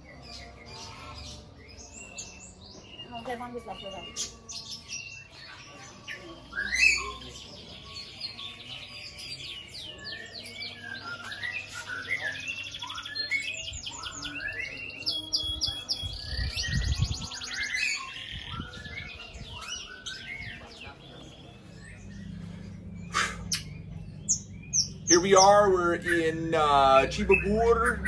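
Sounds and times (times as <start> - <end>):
bird singing whistles and trills: 0.1 - 28.0.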